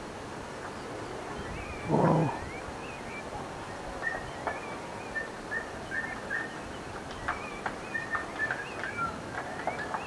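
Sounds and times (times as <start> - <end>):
birds chirping: 0.6 - 10.0.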